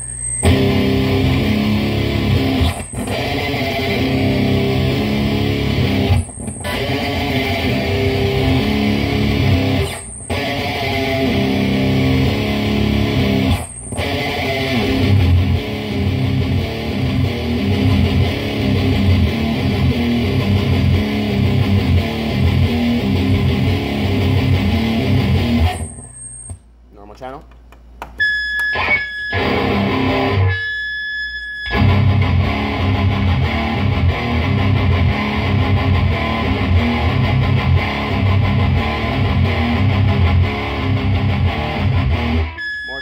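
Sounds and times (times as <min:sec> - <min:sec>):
distorted electric guitar riffing: 0:00.0 - 0:26.1, 0:28.7 - 0:30.8, 0:31.6 - 0:43.0.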